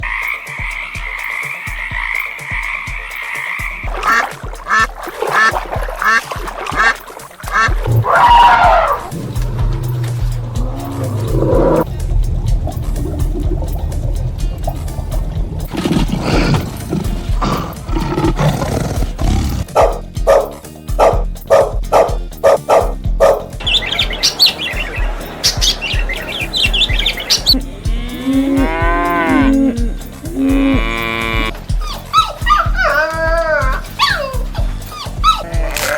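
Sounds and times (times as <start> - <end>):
animal calls: 0.0 - 11.9, 14.7 - 35.9
birds chirping rapidly: 0.0 - 35.9
frogs croaking: 0.0 - 35.9
music beat: 0.0 - 35.9.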